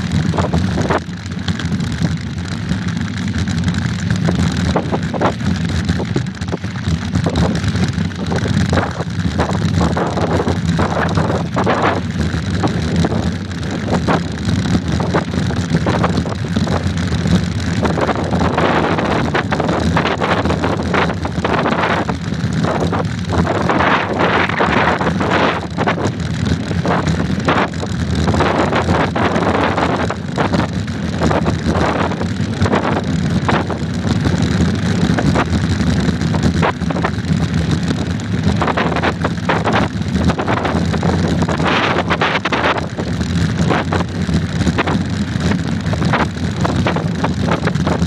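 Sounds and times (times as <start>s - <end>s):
low rumble of bike on gravel: 0.0s - 48.0s
wind buffeting microphone: 4.0s - 48.0s.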